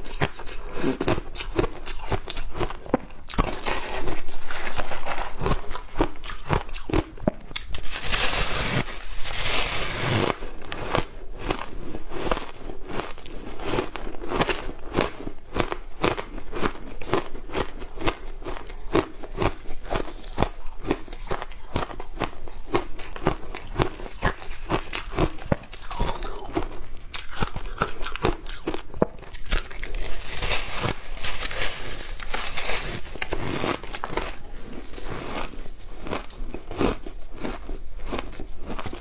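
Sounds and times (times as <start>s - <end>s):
ice being chewed crunching: 0.0s - 39.0s.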